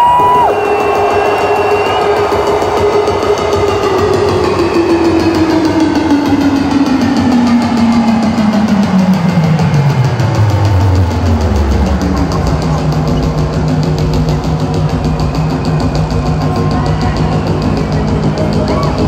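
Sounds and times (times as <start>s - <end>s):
electronic dance music: 0.0s - 19.0s
heavy deep bass: 0.0s - 19.0s.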